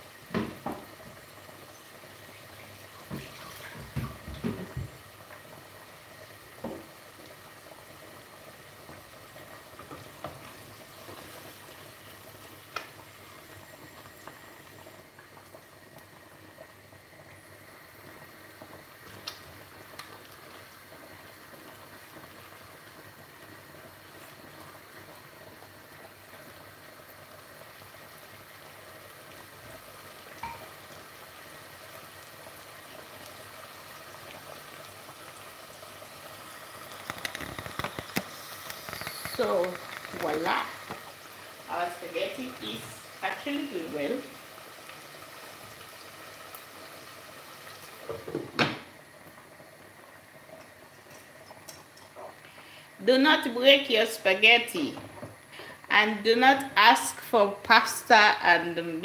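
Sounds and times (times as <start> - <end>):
pots bubbling on a hob: 0.0 - 59.0.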